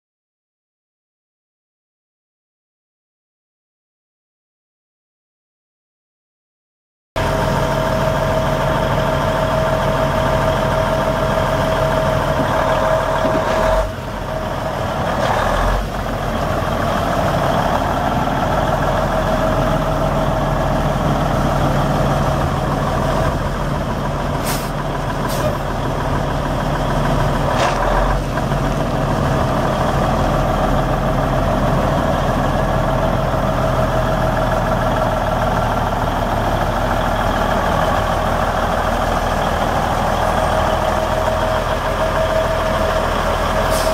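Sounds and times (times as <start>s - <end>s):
diesel truck engine running: 7.2s - 43.9s.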